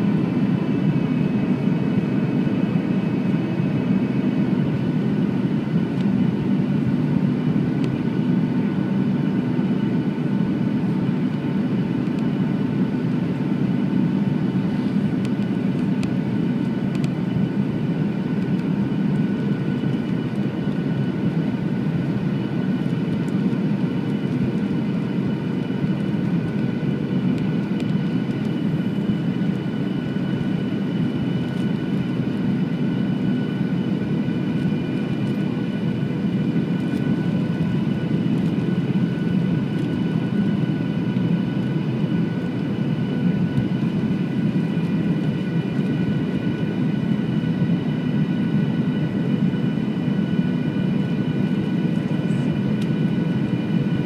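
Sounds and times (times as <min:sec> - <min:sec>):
jet engine drone and rushing air: 0:00.0 - 0:54.0.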